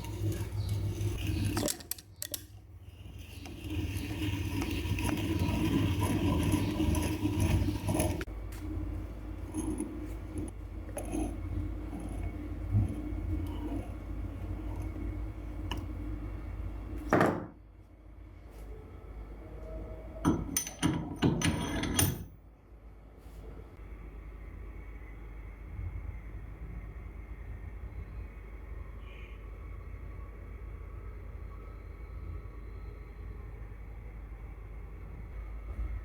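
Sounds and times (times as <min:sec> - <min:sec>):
steady low hum: 0:02.3 - 0:36.0.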